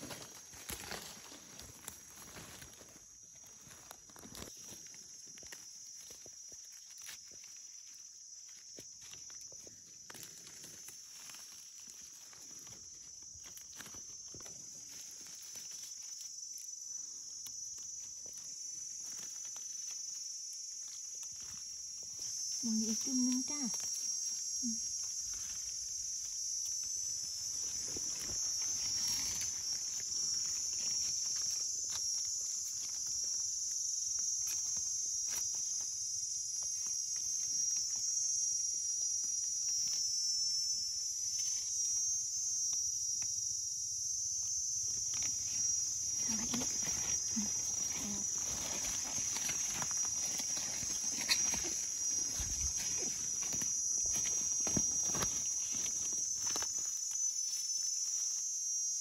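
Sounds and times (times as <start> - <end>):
insects droning: 0.0 - 59.0
rustling leaves and soil: 0.0 - 59.0.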